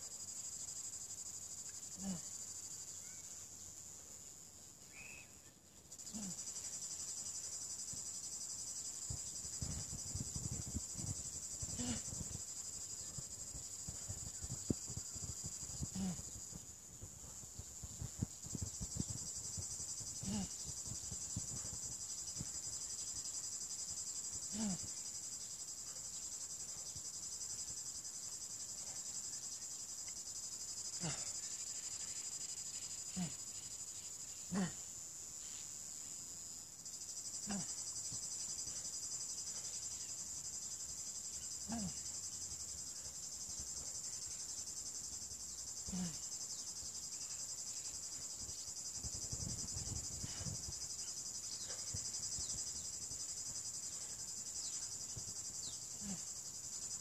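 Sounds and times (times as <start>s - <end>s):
cicadas buzzing: 4.8s - 57.0s.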